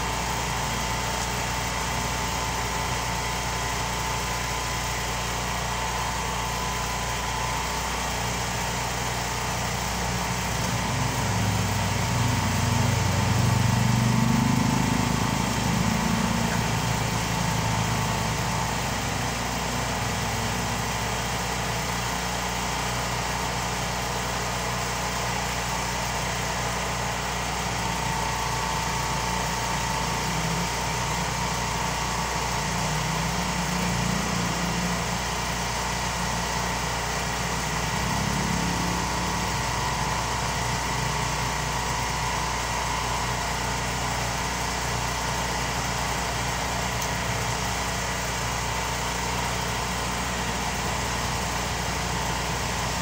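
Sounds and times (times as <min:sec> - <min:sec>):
road traffic noise: 0:00.0 - 0:53.0.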